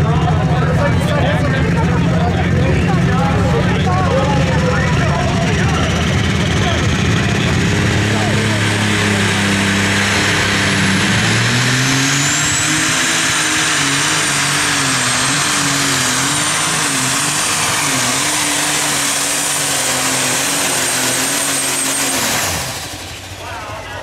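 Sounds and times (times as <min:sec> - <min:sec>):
tractor engine at full power: 0:00.0 - 0:24.0.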